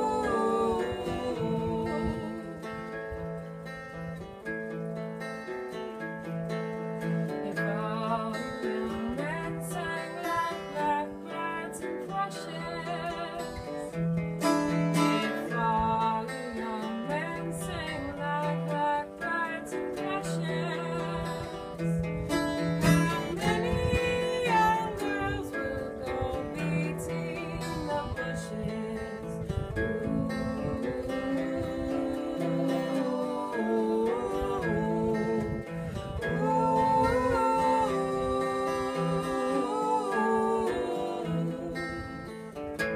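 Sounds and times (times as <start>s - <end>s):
acoustic guitar: 0.0s - 42.9s
person singing folk tune: 0.0s - 42.9s.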